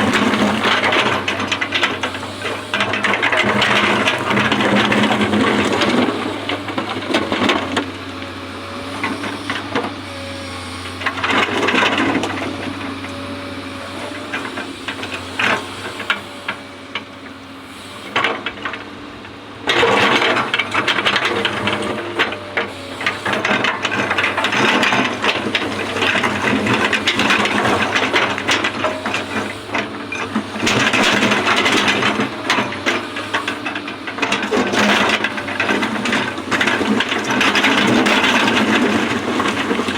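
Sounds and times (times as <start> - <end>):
excavator clattering: 0.0 - 39.9
excavator engine hum: 0.0 - 39.9.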